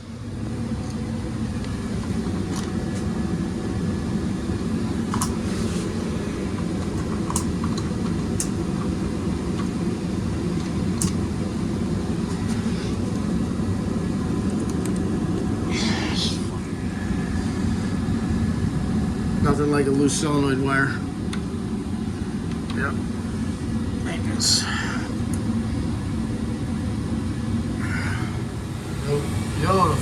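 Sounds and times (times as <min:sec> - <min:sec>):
gas furnace humming: 0:00.0 - 0:30.0.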